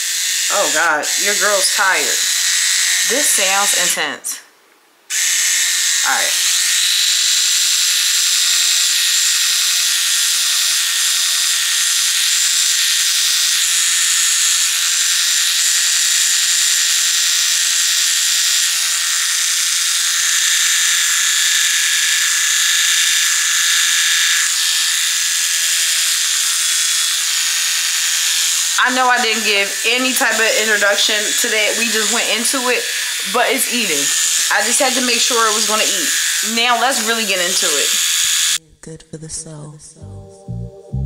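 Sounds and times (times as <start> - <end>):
electric trimmer whirring: 0.0 - 4.2, 5.1 - 38.6.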